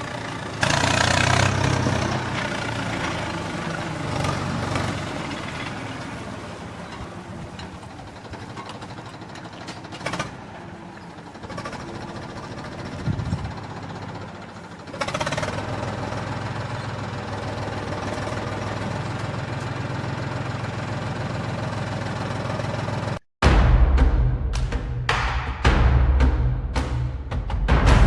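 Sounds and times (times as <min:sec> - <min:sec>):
model bulldozer motor running: 0:00.0 - 0:23.2.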